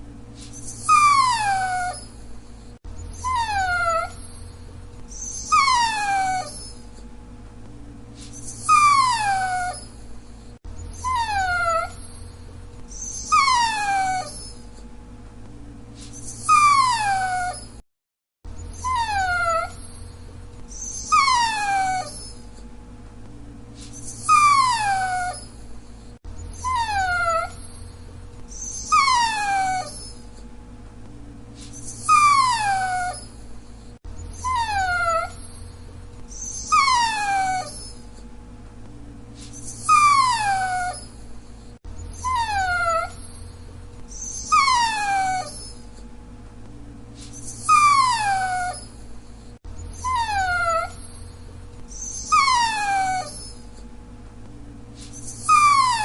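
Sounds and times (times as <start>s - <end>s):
faint hum: 0.0s - 17.8s, 18.5s - 56.0s
dog whining: 0.4s - 7.1s, 8.2s - 14.9s, 16.0s - 17.8s, 18.5s - 22.7s, 23.8s - 30.5s, 31.6s - 38.3s, 39.4s - 46.1s, 47.2s - 53.9s, 55.0s - 56.0s.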